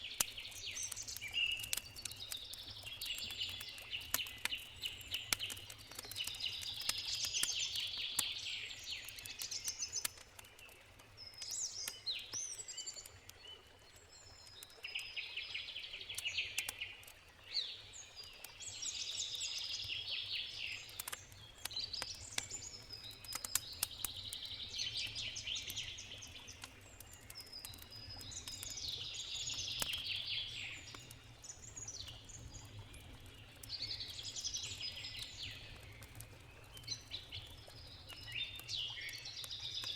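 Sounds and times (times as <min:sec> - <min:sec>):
campfire crackles: 0:00.0 - 0:39.9.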